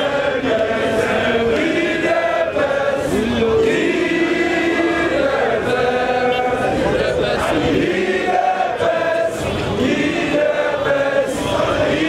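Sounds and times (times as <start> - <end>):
crowd singing and chanting: 0.0 - 12.0.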